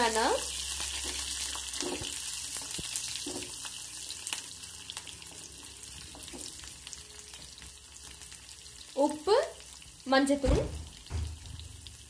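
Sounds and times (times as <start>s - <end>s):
frying sizzle with pops: 0.0s - 12.0s.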